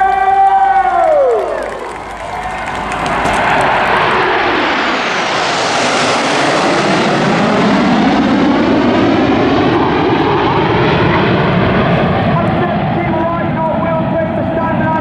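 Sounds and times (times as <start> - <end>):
jets flying past: 1.2 - 15.0.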